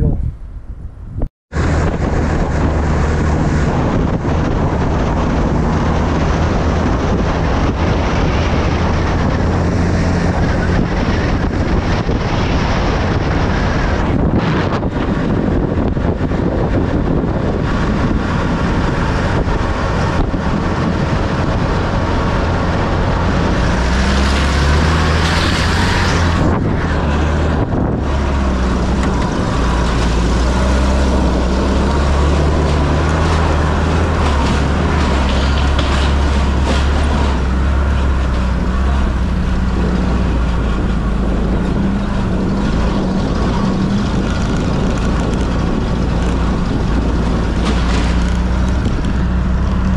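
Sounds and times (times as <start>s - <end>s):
vehicle engine under load: 0.0s - 49.9s.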